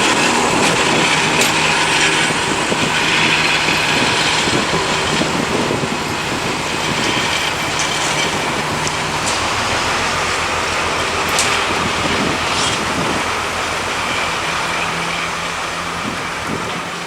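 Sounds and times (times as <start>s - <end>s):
diesel locomotive engine hum: 0.0s - 17.0s
high squeaks: 0.0s - 17.0s
wheels rumbling on rail: 0.0s - 17.0s.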